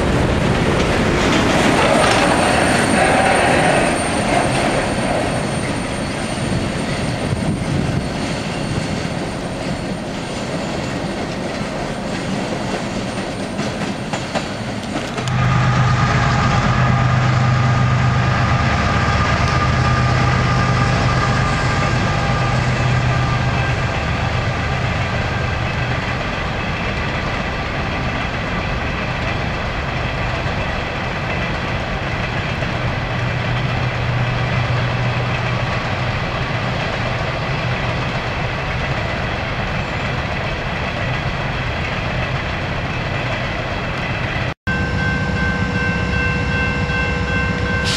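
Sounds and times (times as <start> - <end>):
train wheels clattering on rails: 0.0 - 44.6
diesel locomotive engine hum: 0.0 - 47.9.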